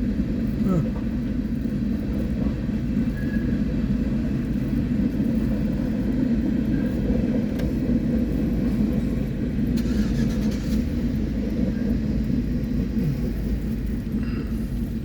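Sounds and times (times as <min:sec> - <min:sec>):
diesel locomotives rumbling past: 0:00.0 - 0:15.0.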